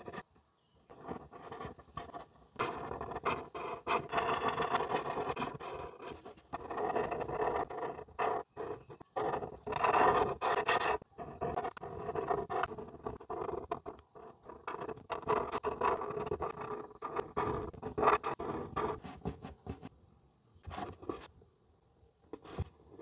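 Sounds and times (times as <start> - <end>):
marker scratching on paper: 0.9 - 19.9, 20.6 - 21.3.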